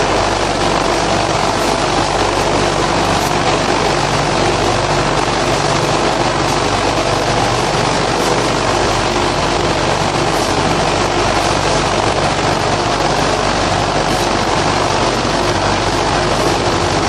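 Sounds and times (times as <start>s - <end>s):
electric motor humming: 0.0s - 17.0s
mechanical din of machinery: 0.0s - 17.0s.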